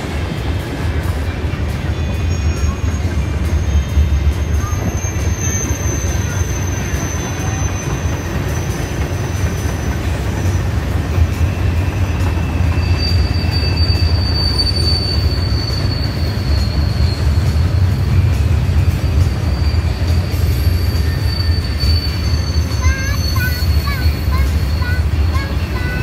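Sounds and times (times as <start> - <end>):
high wheel squeal: 0.0 - 26.0
train wheels rumbling on rail: 0.0 - 26.0.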